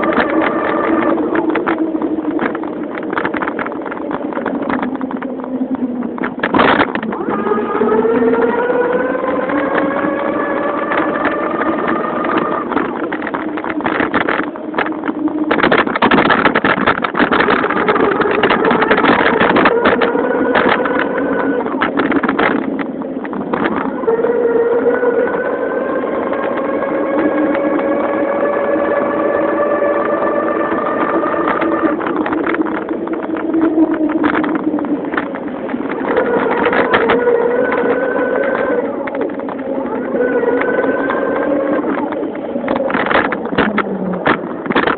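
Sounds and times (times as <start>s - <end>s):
motorized bicycle engine drone: 0.0s - 44.9s
rattling and clatter: 0.0s - 44.9s.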